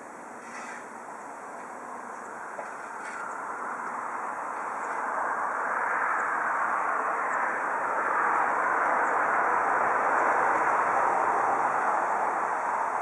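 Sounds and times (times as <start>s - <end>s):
passing vehicle road noise: 0.0s - 13.0s.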